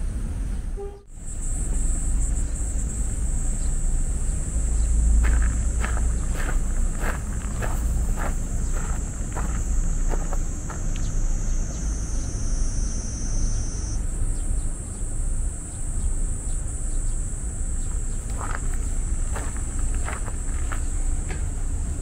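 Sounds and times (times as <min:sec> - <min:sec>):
insects droning: 0:00.1 - 0:22.0.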